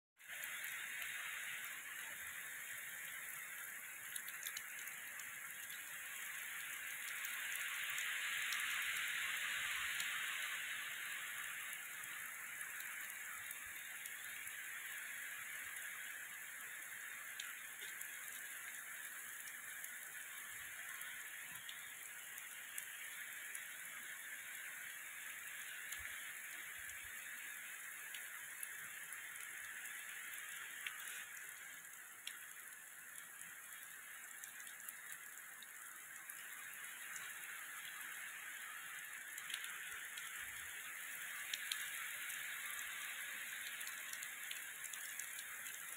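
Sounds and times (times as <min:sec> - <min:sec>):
heavy rain on vegetation: 0:00.2 - 0:45.9.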